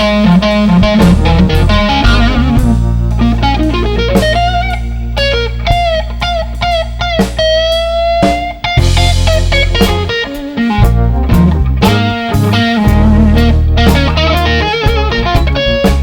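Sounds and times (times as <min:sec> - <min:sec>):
bass line: 0:00.0 - 0:16.0
electric blues guitar solo: 0:00.0 - 0:16.0.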